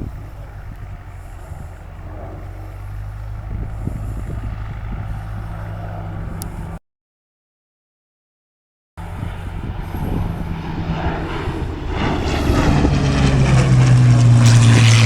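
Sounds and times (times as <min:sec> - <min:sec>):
aircraft piston engine crackling: 0:00.0 - 0:06.8, 0:09.0 - 0:15.0.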